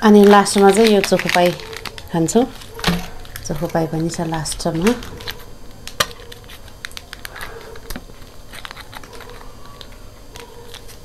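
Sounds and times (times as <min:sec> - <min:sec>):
foil sachets crinkling: 0:00.0 - 0:11.0.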